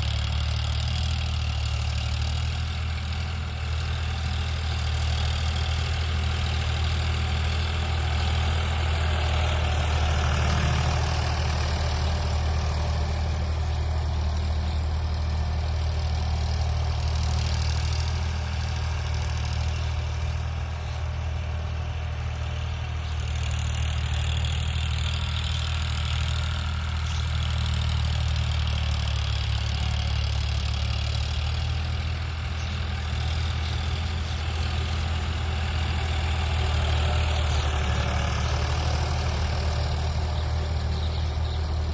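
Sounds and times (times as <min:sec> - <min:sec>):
tractor diesel engine droning: 0:00.0 - 0:41.9.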